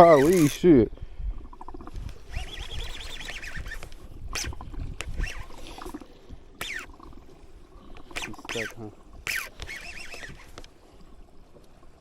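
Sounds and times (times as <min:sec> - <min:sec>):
water slapping boat hull: 0:01.4 - 0:12.0.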